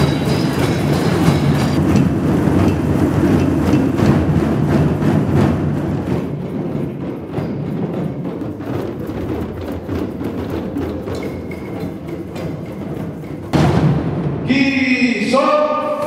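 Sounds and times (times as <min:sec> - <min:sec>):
group of hand drums playing: 0:00.0 - 0:14.5.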